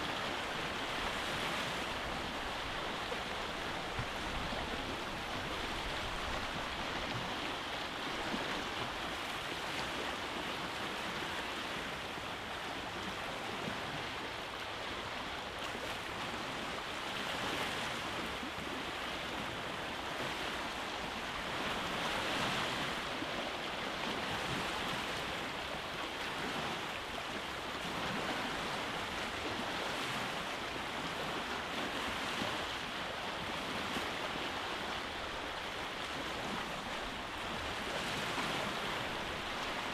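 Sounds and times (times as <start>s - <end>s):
waves breaking over rocks: 0.0s - 14.3s, 14.9s - 39.9s.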